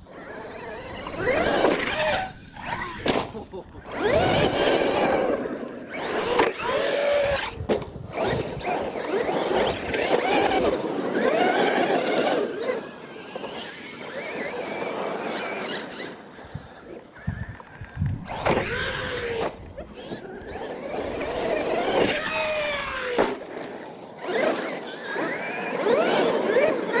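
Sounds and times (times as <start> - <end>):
electric motors whining: 0.0 - 27.0.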